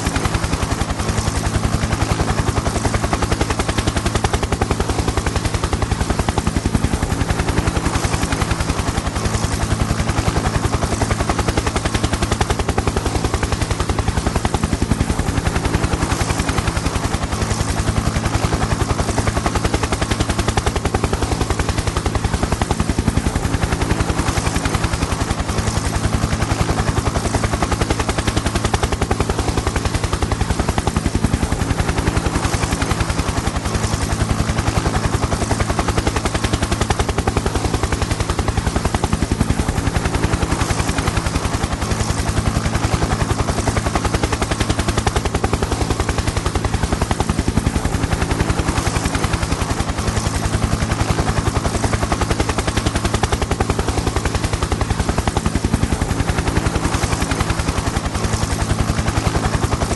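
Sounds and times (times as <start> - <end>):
helicopter engine drone: 0.0 - 59.9
helicopter rotor chopping: 0.0 - 59.9.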